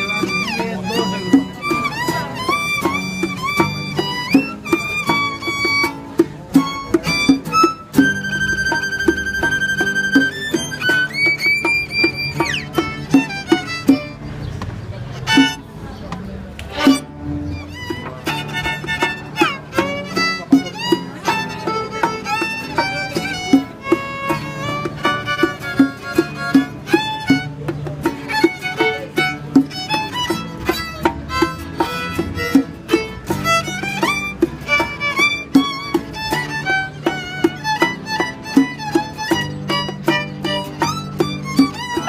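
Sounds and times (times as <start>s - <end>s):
violin melody: 0.0s - 15.9s, 16.5s - 42.0s
backing track with bass and beat: 0.0s - 42.0s.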